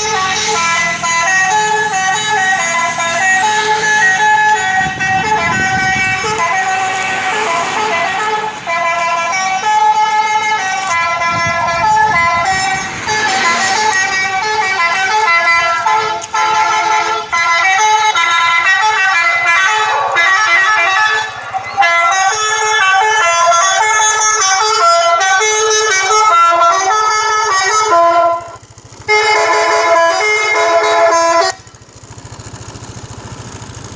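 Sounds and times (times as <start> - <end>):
electronic bus horn melody: 0.0 - 32.2.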